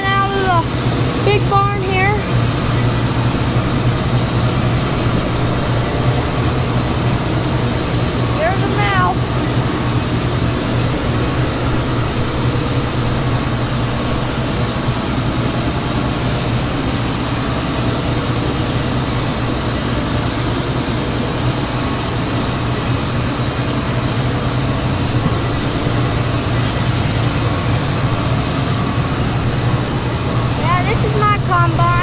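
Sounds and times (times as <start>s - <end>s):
diesel engine running: 0.0s - 32.0s
high whine: 0.0s - 32.0s.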